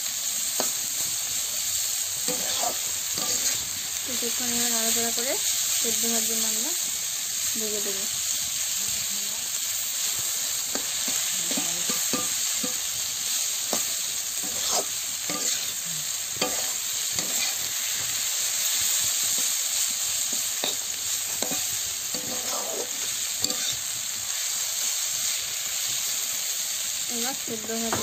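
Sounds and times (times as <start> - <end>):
vegetables sizzling in oil: 0.0 - 28.0
spatula scraping wok: 0.3 - 8.7, 9.5 - 28.0.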